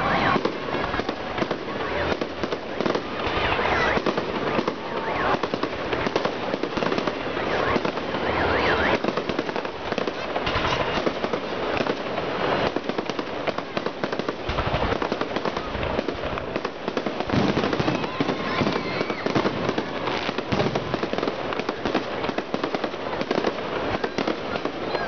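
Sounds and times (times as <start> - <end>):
deep firework booms: 0.0 - 24.8
fireworks crackling and popping: 0.0 - 25.0.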